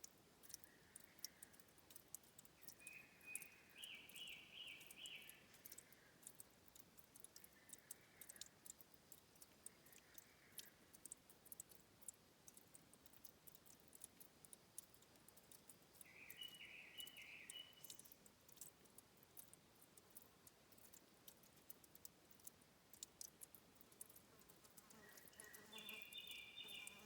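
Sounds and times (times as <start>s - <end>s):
water trickling and dripping: 0.0s - 27.0s.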